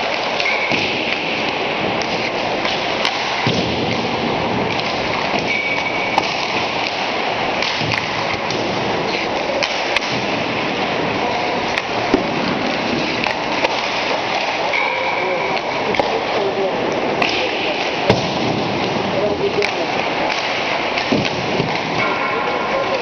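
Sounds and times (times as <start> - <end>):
pucks cracking against sticks: 0.0 - 23.0
skates and pucks clattering on ice: 0.0 - 23.0.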